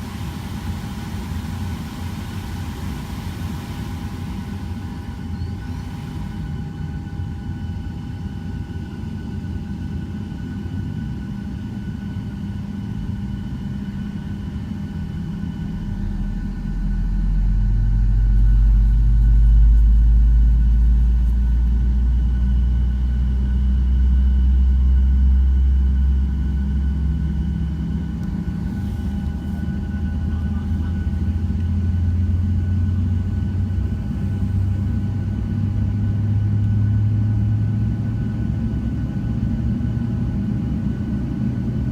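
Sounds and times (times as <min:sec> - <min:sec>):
jet engines from inside cabin: 0:00.0 - 0:41.9.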